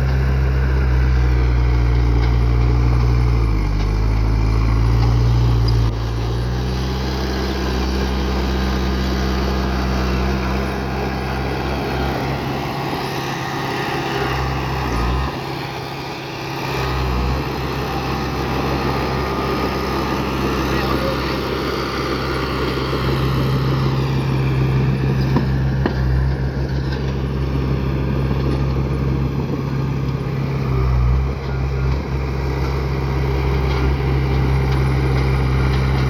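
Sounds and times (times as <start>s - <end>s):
heavy diesel engine under load: 0.0s - 36.0s.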